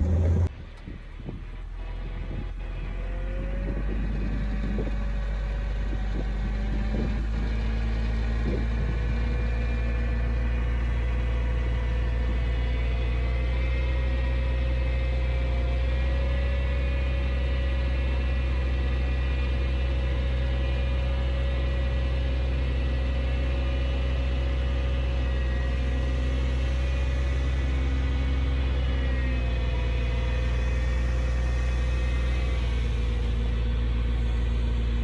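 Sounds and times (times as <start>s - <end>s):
steady whine: 0.0s - 16.2s, 17.6s - 35.0s
bulldozer diesel engine drone: 0.0s - 35.0s.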